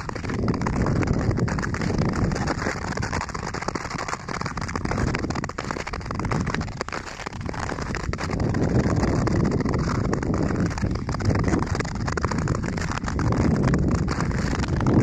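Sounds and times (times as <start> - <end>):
skate blades scraping over ice: 0.0 - 15.0.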